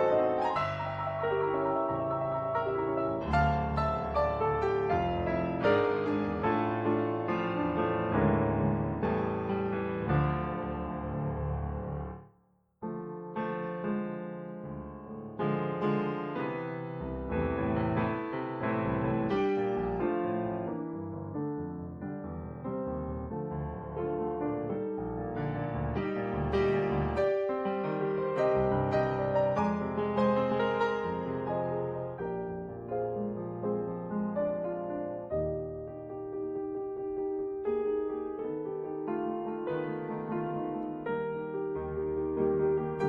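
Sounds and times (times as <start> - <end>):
solo piano music: 0.0 - 43.0.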